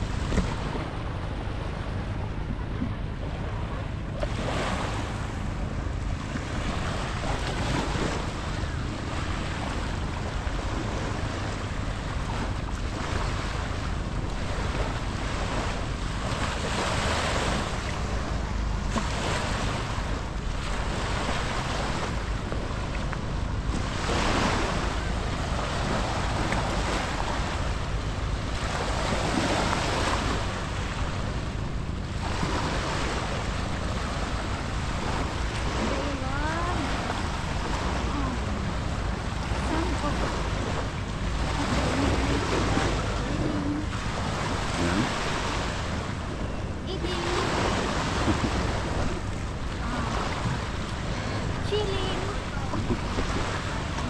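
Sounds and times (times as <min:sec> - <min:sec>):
small waves breaking on sand: 0:00.0 - 0:02.2, 0:03.2 - 0:54.0
wind rumbling on microphone: 0:00.0 - 0:54.0.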